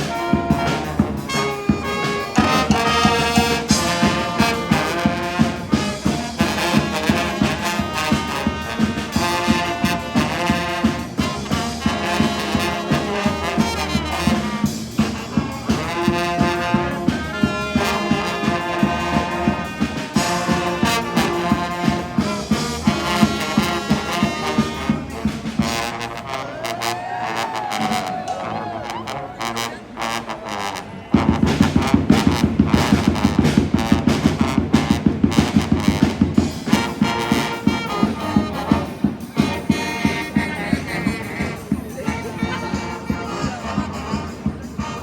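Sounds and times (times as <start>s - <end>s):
street band playing upbeat tune: 0.0s - 45.0s.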